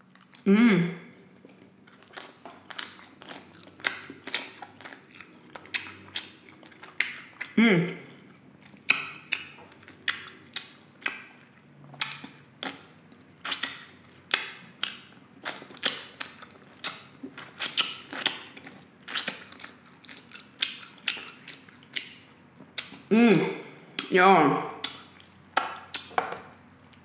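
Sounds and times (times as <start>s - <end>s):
person chewing meat off bone: 1.2s - 24.1s, 24.8s - 27.0s.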